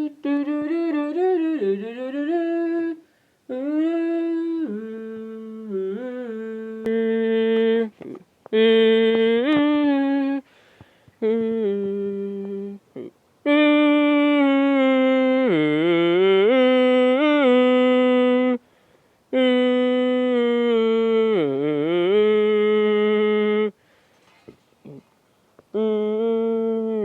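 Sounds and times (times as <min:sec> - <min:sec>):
person humming a tune: 0:00.0 - 0:10.6, 0:11.2 - 0:18.6, 0:19.3 - 0:27.0.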